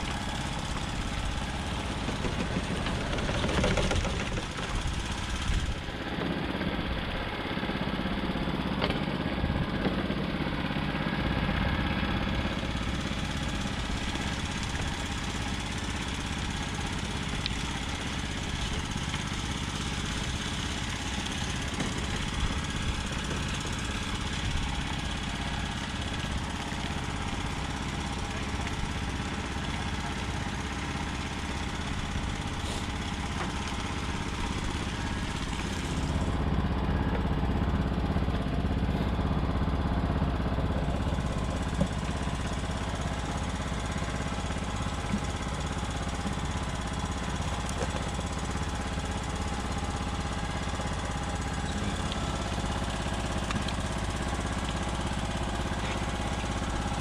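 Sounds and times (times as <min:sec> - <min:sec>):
small engine humming: 0:00.0 - 0:57.0.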